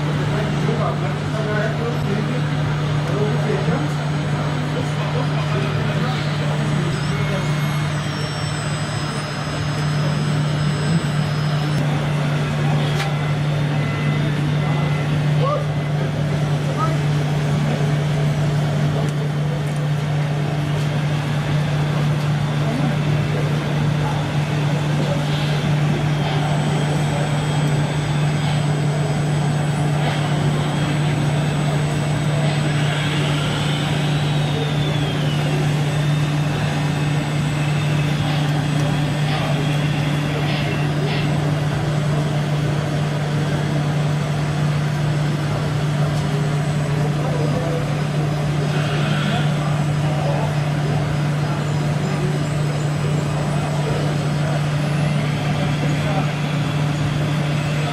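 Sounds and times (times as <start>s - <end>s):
model truck engine hum: 0.0s - 57.9s.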